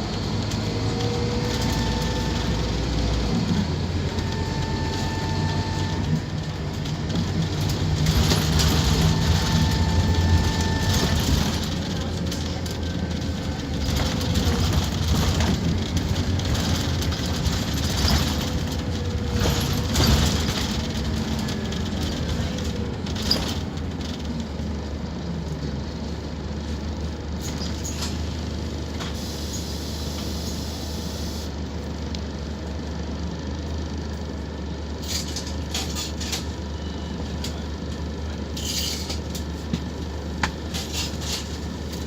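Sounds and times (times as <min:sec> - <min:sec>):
bus diesel engine droning: 0:00.0 - 0:42.0.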